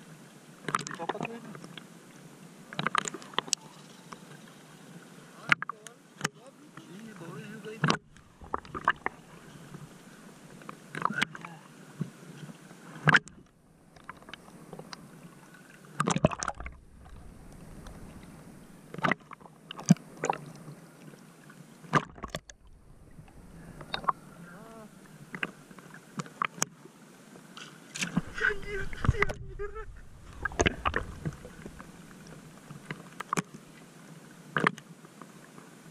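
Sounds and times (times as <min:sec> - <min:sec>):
small waves splashing: 0:00.0 - 0:35.9.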